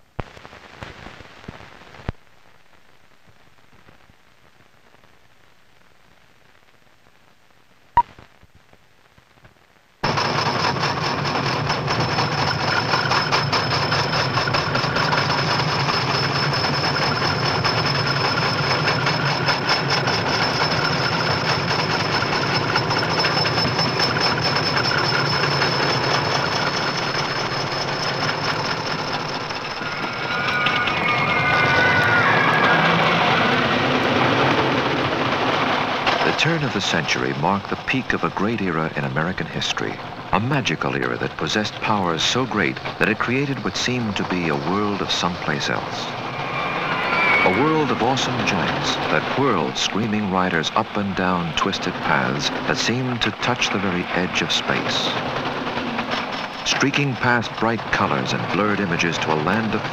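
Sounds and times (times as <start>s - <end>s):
film soundtrack crackling and hissing: 0.0s - 59.9s
roller coaster rattling on track: 10.0s - 59.9s.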